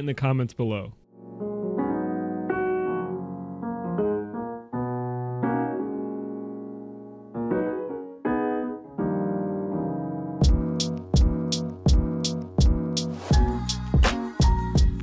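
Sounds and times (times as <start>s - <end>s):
slow piano chords: 1.0s - 15.0s.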